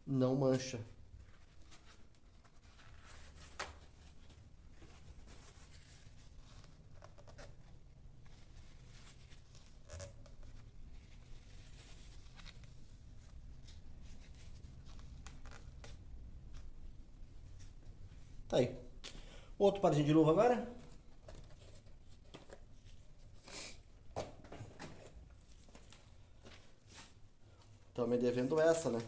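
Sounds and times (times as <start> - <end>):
soft rubbing and rustling: 0.5 - 18.6, 19.8 - 29.0.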